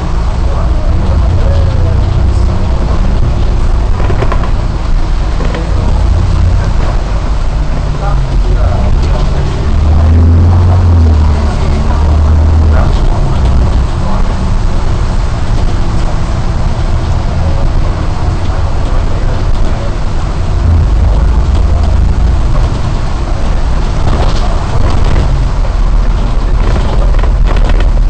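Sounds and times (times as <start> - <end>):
bus diesel engine rumble: 0.0 - 28.0
heavy rain: 0.0 - 28.0
road noise on wet road: 0.0 - 28.0.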